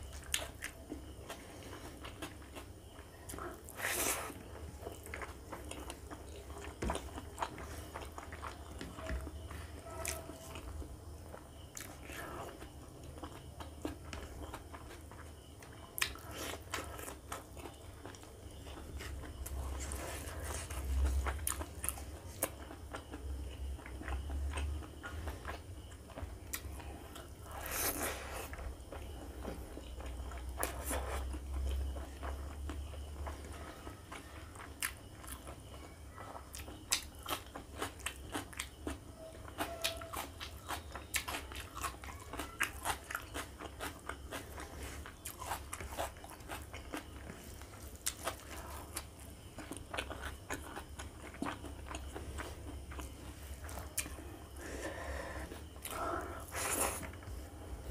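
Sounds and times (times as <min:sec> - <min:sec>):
wet chewing and mouth clicks: 0:00.1 - 0:54.7.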